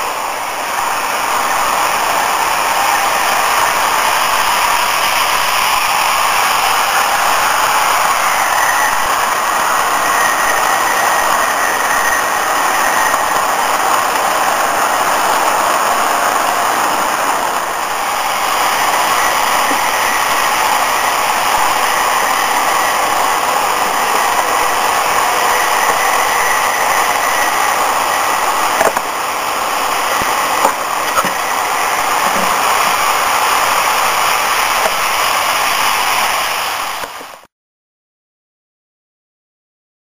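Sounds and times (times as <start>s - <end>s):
model train running on track: 0.0s - 37.5s.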